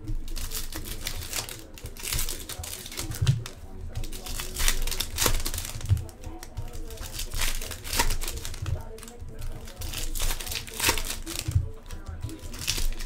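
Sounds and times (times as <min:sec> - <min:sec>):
foil wrappers crinkling and tearing: 0:00.0 - 0:13.0.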